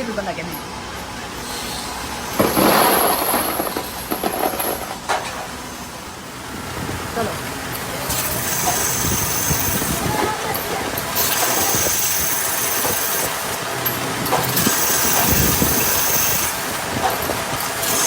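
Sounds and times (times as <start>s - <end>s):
factory machinery hissing: 0.0s - 18.0s.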